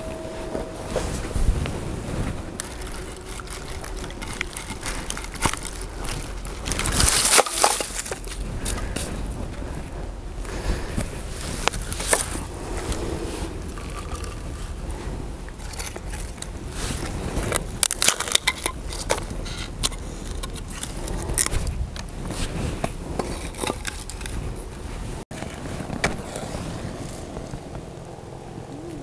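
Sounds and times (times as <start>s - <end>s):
firewood crunching and knocking: 0.1s - 27.8s.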